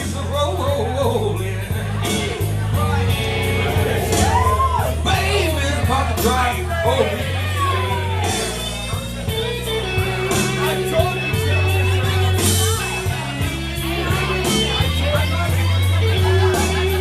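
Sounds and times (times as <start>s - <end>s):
live blues band playing: 0.0s - 17.0s.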